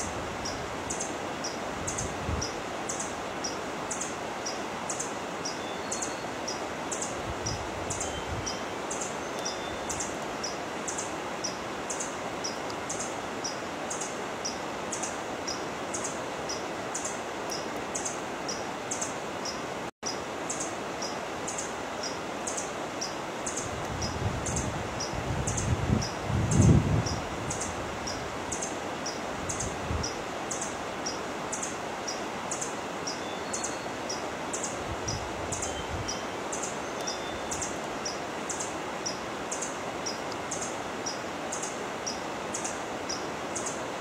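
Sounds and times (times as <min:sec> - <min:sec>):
steady hiss: 0:00.0 - 0:44.0.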